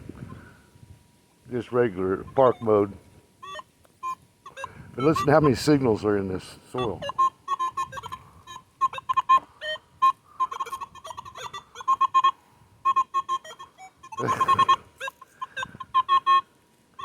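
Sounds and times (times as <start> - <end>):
faint steady tone: 0.0 - 17.0
metal detector beeping: 2.2 - 6.0, 6.7 - 17.0.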